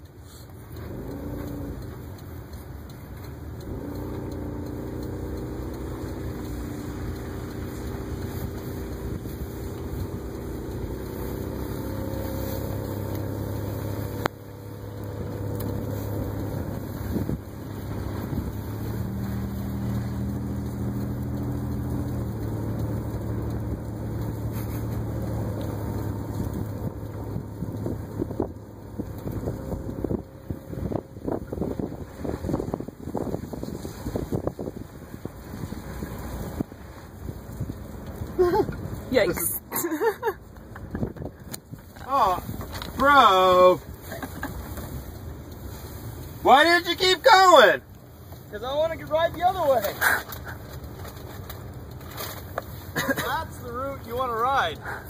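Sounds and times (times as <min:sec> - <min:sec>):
car engine running: 0:00.0 - 0:55.0
tyre and road noise: 0:00.0 - 0:55.0.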